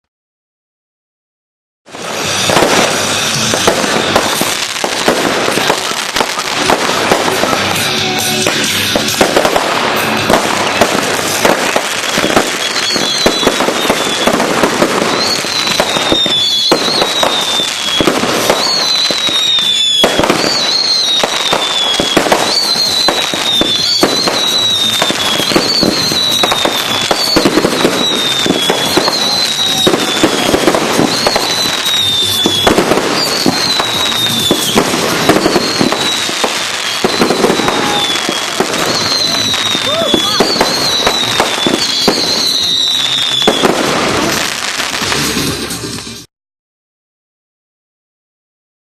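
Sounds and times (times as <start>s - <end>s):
fireworks bangs and crackling: 1.8s - 46.3s
falling firework whistles: 1.9s - 46.3s.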